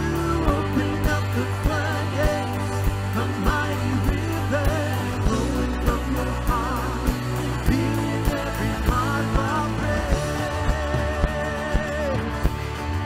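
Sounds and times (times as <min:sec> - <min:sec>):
live band playing worship song: 0:00.0 - 0:13.0.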